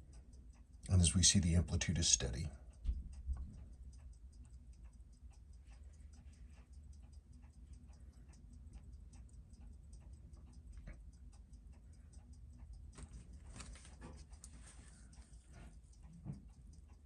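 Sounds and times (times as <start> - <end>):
watch ticking: 0.0 - 17.0.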